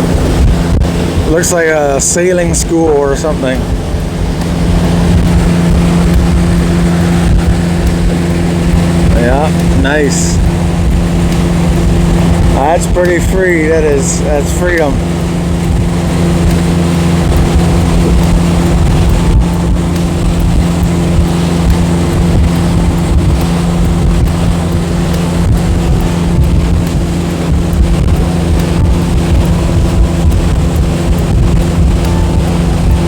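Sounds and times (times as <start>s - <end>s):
motorboat engine running: 0.0s - 33.0s
wind buffeting microphone: 0.0s - 33.0s.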